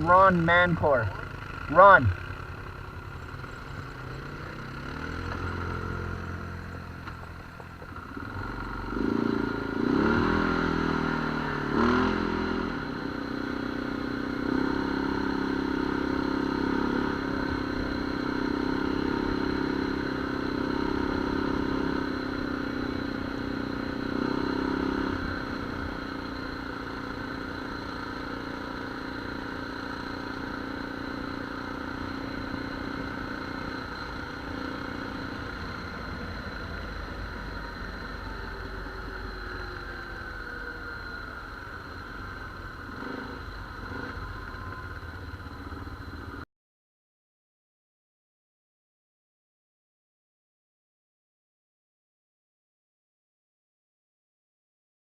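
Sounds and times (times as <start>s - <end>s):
atv engine revving: 0.0s - 46.3s.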